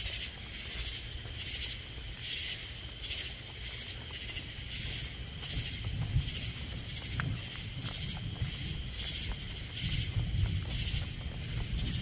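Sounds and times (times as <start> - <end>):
night insects chirping: 0.0 - 12.0.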